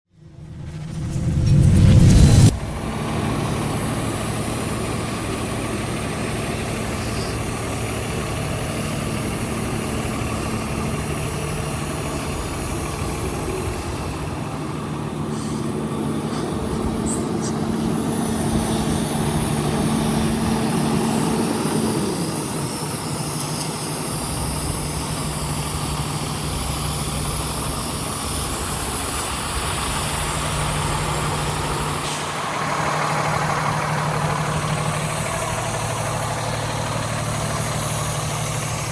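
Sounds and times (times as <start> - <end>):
truck diesel engine idling: 2.5 - 38.9.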